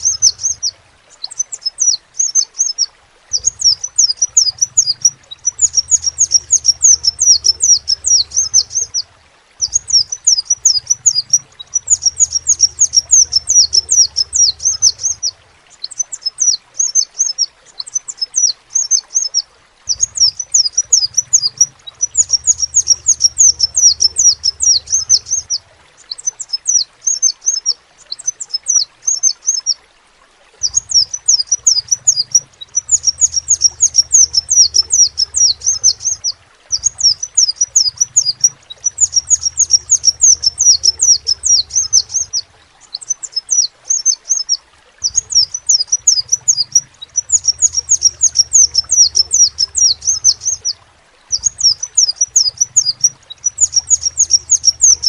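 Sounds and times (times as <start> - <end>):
bird twittering trills: 0.0 - 29.8, 30.6 - 55.0.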